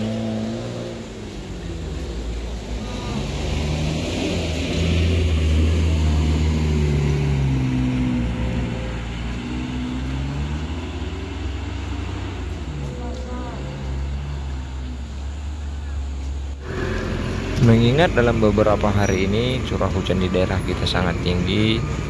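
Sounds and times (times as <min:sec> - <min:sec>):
cars and trucks driving past: 0:00.0 - 0:22.0.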